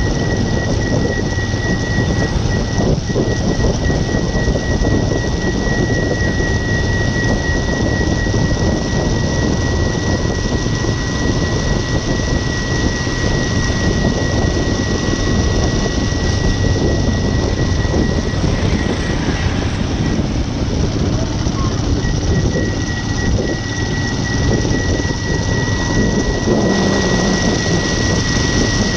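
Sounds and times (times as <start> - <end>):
thin high whine: 0.0 - 28.9
wind and vehicle rumble: 0.0 - 28.9.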